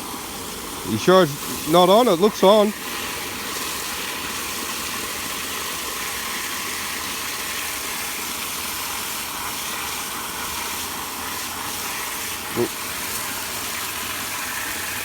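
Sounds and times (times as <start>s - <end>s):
water spraying from pipe: 0.0s - 15.0s.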